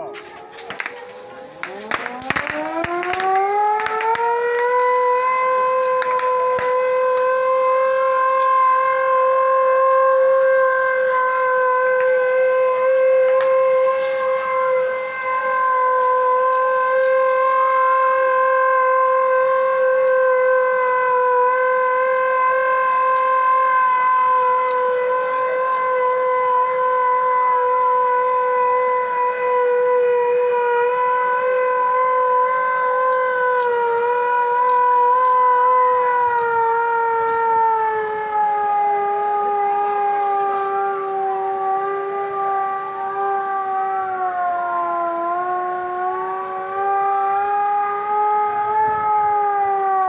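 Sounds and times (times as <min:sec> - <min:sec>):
rising and falling siren tones: 0:00.0 - 0:50.0
siren steady tone: 0:00.0 - 0:50.0.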